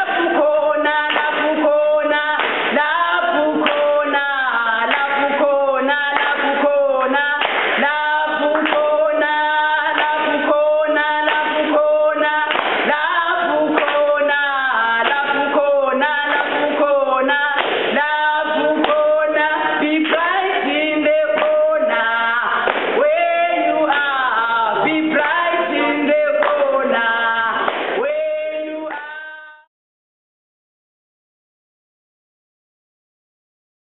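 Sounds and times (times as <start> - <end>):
two women singing: 0.0 - 29.7.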